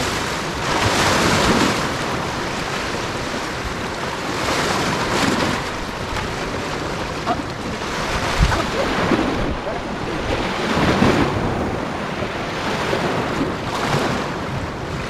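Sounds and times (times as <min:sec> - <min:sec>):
waves splashing on rocks: 0:00.0 - 0:15.0
wind buffeting microphone: 0:00.0 - 0:15.0.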